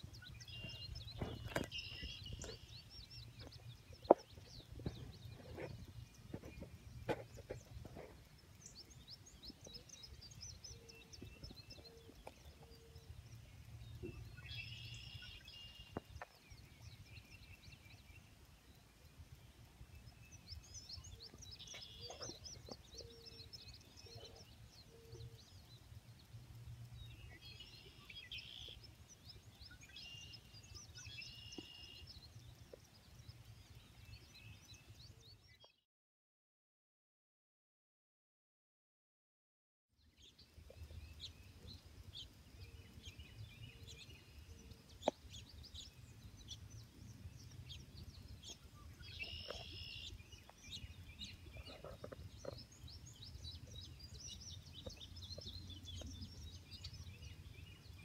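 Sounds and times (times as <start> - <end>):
birds chirping: 0.0 - 35.8, 40.0 - 58.0.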